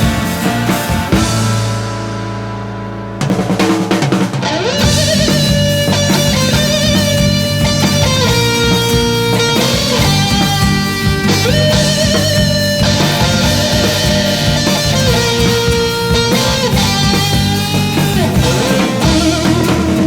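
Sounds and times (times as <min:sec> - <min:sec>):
electric guitar: 0:00.0 - 0:20.0
rock band playing: 0:00.0 - 0:20.0.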